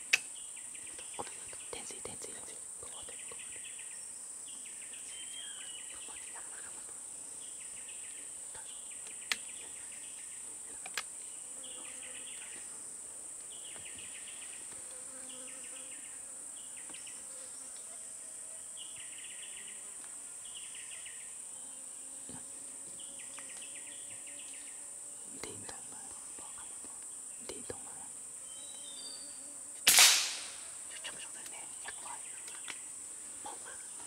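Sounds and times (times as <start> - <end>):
insect chirping calls: 0.0 - 17.3, 18.5 - 34.0.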